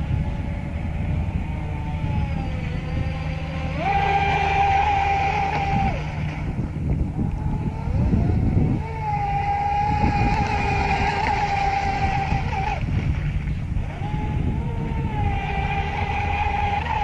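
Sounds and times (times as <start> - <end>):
electric motor whining: 0.0 - 13.0, 13.6 - 17.0.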